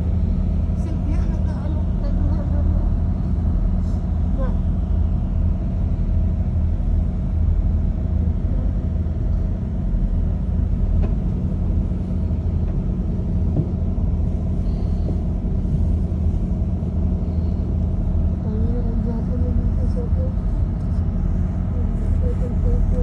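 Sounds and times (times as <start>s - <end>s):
boat engines droning: 0.0s - 23.0s
faint steady hum: 0.0s - 23.0s.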